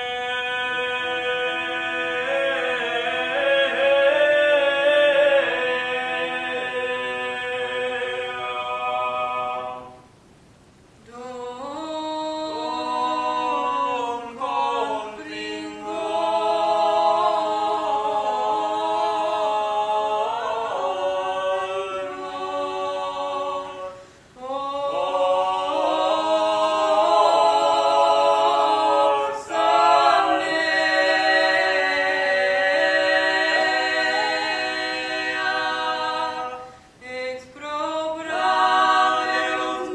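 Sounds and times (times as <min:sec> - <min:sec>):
choir singing a cappella: 0:00.0 - 0:10.2, 0:11.0 - 0:39.9.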